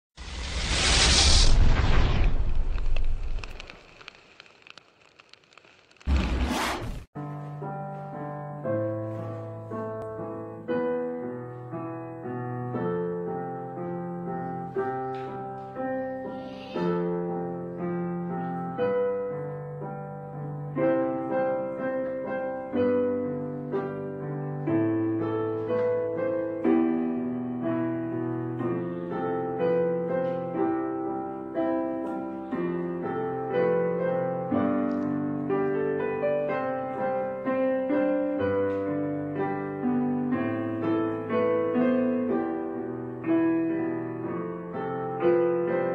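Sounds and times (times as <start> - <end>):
piano music: 7.1 - 45.9.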